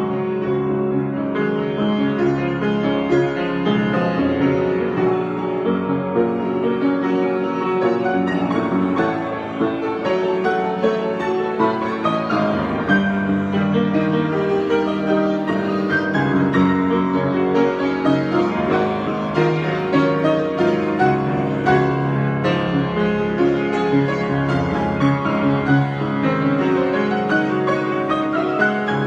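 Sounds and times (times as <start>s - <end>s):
improvised piano piece: 0.0s - 29.0s.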